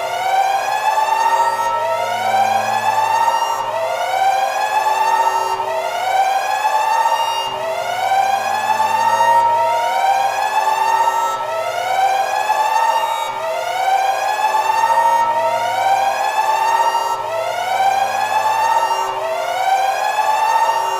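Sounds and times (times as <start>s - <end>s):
siren wailing: 0.1s - 20.9s.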